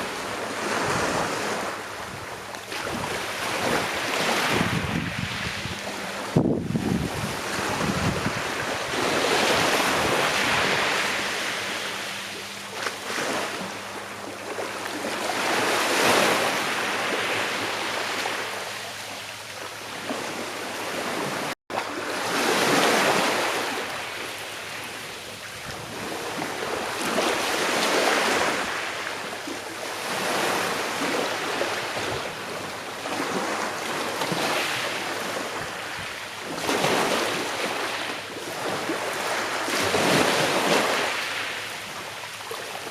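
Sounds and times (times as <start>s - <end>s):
sea waves washing onto shore: 0.0s - 42.9s.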